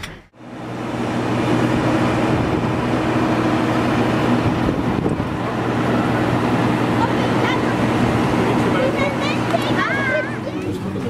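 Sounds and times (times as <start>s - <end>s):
airport ground machinery drone: 0.0s - 11.0s.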